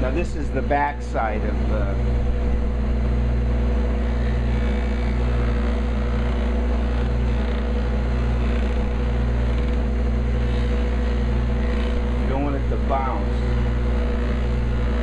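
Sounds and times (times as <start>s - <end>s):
bench buffer humming: 0.0s - 15.0s.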